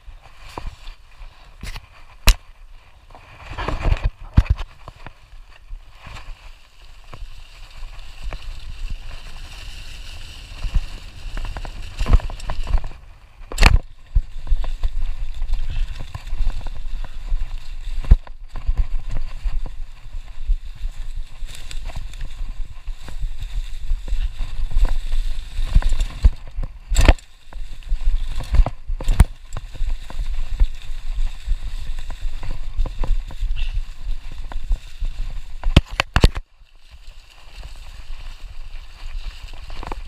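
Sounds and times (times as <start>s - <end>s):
bicycle tyres crunching leaves: 0.0s - 40.0s.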